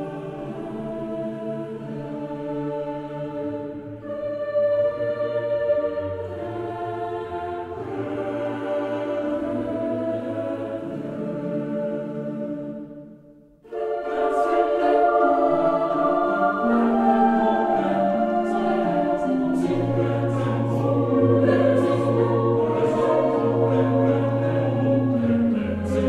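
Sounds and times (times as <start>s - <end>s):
slow music of held chords: 0.0s - 26.0s.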